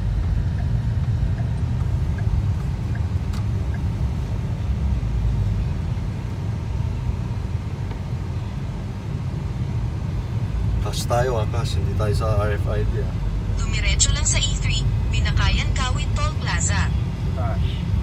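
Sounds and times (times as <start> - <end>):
car cabin road rumble: 0.0 - 18.0.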